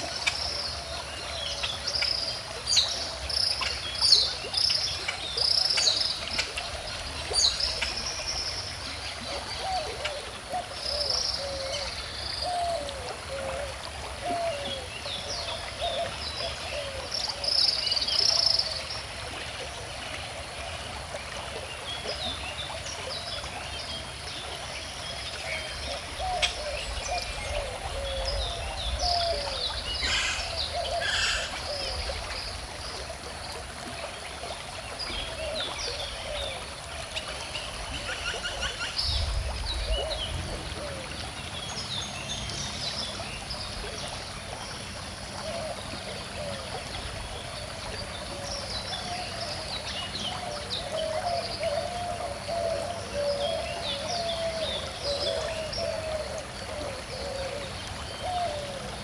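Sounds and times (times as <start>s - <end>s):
stream flowing and trickling: 0.0s - 59.0s.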